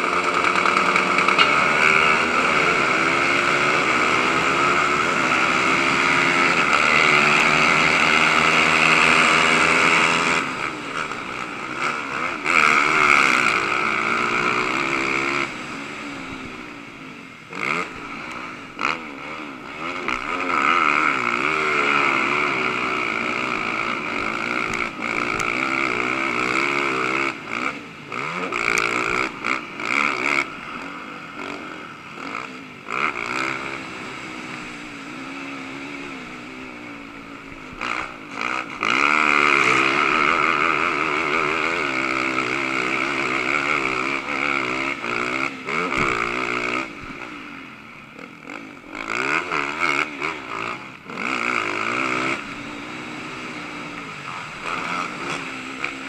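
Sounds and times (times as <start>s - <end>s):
quad engine revving over dirt: 0.0s - 56.0s
quad engines at full throttle: 0.0s - 56.0s.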